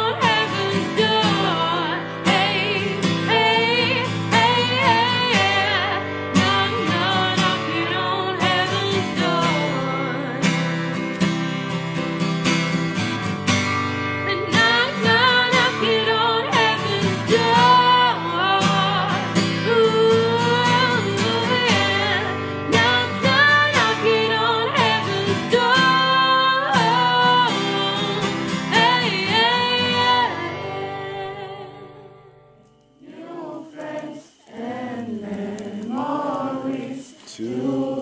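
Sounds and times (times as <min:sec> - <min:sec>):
song with voice and guitar: 0:00.0 - 0:38.0.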